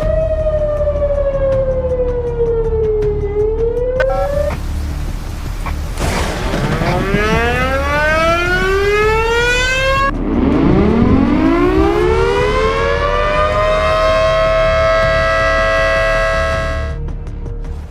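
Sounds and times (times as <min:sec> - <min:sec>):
tornado warning siren wailing: 0:00.0 - 0:17.2.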